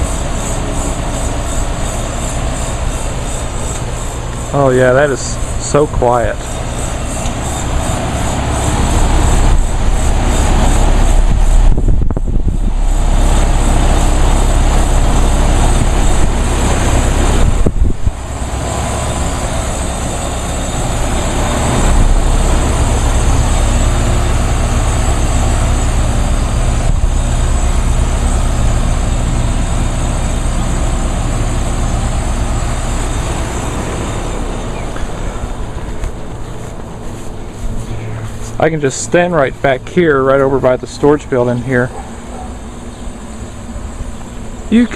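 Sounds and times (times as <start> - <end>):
air conditioner unit humming: 0.0 - 44.9.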